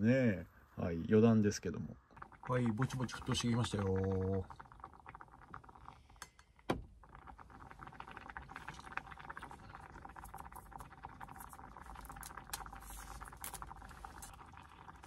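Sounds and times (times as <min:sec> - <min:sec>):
water boiling with fine bubbling: 0:00.0 - 0:15.0.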